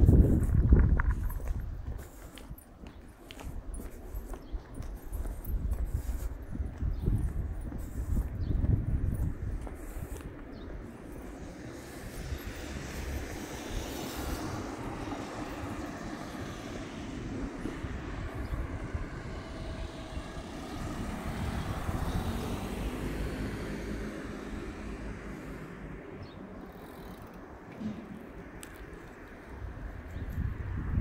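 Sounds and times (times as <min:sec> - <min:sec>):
airplane passing overhead: 0:00.0 - 0:31.0.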